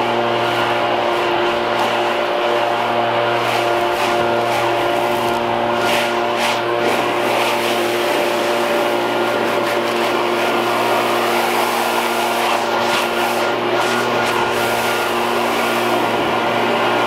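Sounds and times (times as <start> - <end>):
leaf blower engine running: 0.0 - 17.0
leaves blown across lawn: 0.1 - 17.0.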